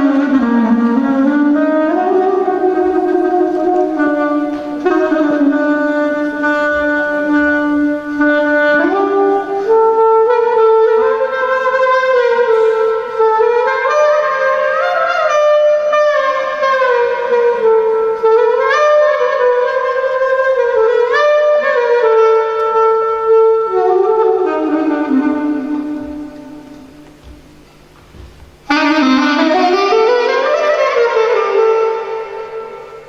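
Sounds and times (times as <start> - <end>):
wind instrument ornamented melody: 0.0 - 27.1, 28.7 - 33.0.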